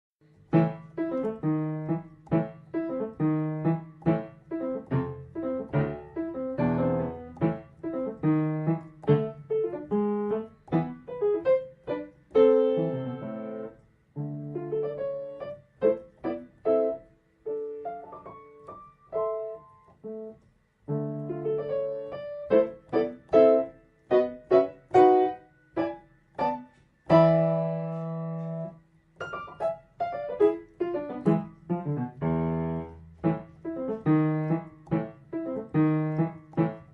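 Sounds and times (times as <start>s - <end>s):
lively solo piano: 0.2s - 36.9s.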